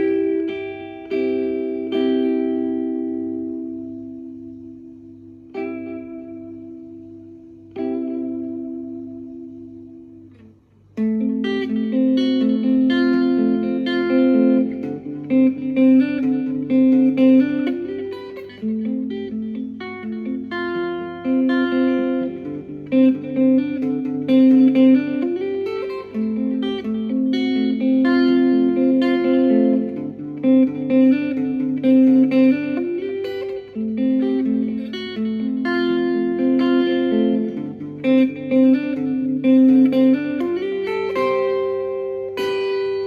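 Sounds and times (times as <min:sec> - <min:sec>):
guitar melody: 0:00.0 - 0:43.0.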